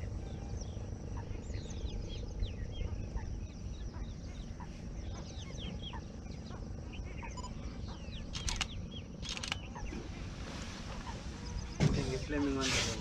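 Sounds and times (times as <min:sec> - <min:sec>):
steady low rumble: 0:00.0 - 0:13.0
water birds calling: 0:00.0 - 0:13.0.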